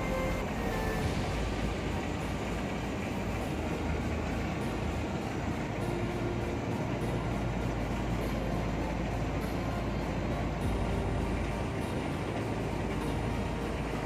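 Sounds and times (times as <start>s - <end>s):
constant hiss: 0.0s - 14.0s
diesel engine low rumble: 0.0s - 14.0s.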